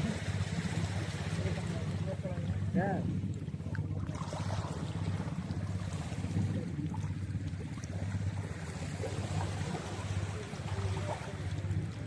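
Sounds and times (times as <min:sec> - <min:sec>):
boat engine humming: 0:00.0 - 0:12.0
rushing water: 0:00.0 - 0:12.0
wind: 0:00.0 - 0:12.0.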